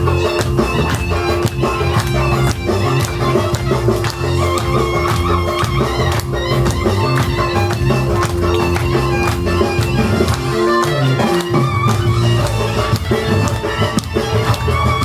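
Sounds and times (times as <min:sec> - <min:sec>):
folk music melody: 0:00.0 - 0:15.0
steady drum beat: 0:00.0 - 0:15.0.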